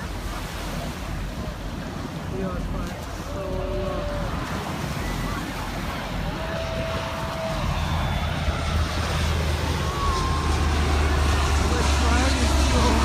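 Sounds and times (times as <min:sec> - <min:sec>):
distant aircraft rumble: 0:00.0 - 0:13.0
far-off voices: 0:00.0 - 0:13.0
surf: 0:00.0 - 0:13.0
wind: 0:00.0 - 0:13.0.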